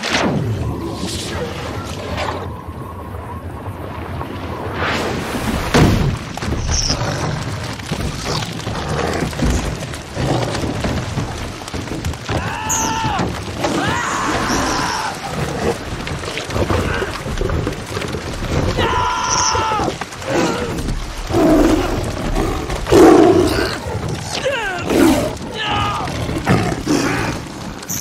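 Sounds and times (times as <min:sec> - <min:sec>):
water splashes: 0:00.0 - 0:28.0.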